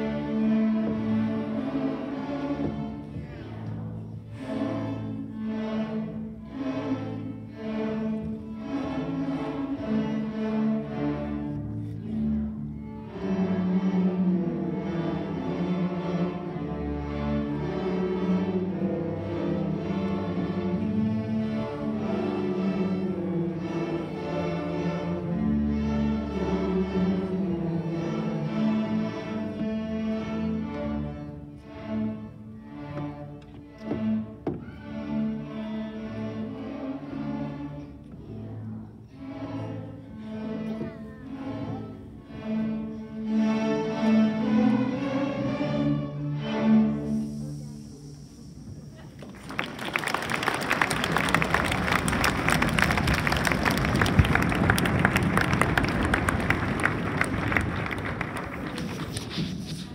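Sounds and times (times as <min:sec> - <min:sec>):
string orchestra playing: 0:00.0 - 0:59.9.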